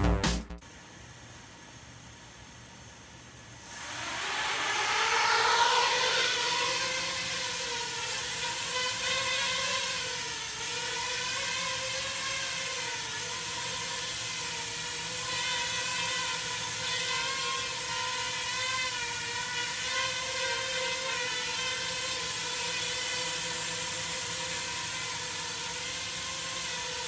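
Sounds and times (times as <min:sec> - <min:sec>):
quadcopter motors whining: 0:03.6 - 0:27.0.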